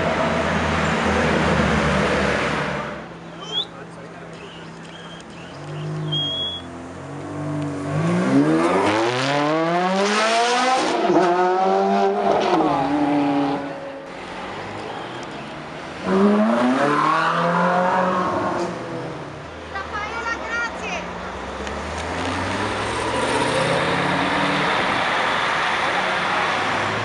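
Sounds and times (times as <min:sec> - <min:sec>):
car engines accelerating hard: 0:00.0 - 0:19.6, 0:21.2 - 0:27.0.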